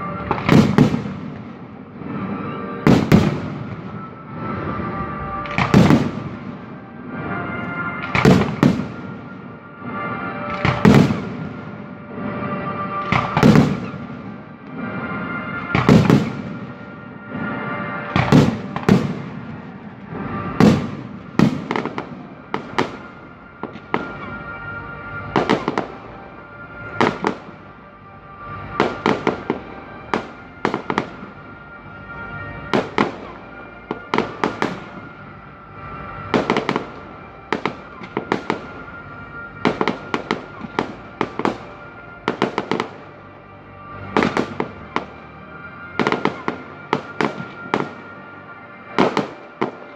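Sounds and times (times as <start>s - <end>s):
fireworks bursting with bangs: 0.0s - 27.7s, 28.4s - 43.2s, 43.8s - 48.3s, 48.9s - 49.9s
music playing: 0.0s - 49.9s.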